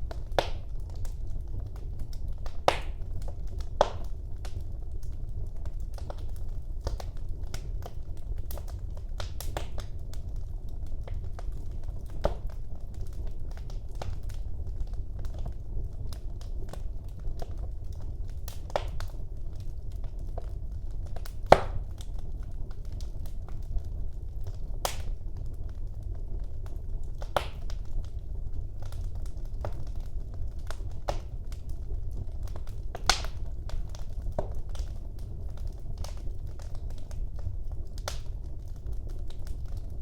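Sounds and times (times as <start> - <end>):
fire crackling and popping: 0.0 - 40.0
wood fire burning: 0.0 - 40.0.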